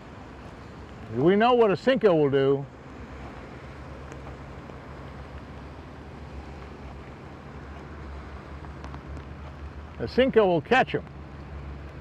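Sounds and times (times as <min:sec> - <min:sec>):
rain falling on water: 0:00.0 - 0:02.2, 0:03.1 - 0:12.0.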